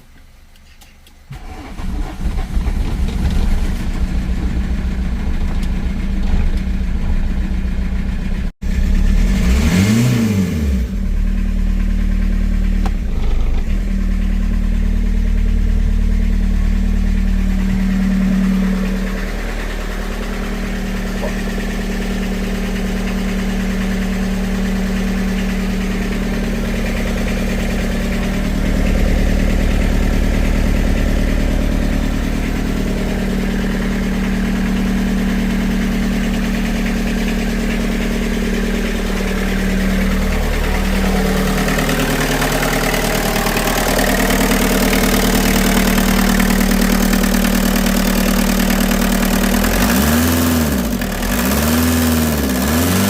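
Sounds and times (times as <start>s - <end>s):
diesel engine idling: 1.3s - 9.4s, 10.9s - 53.0s.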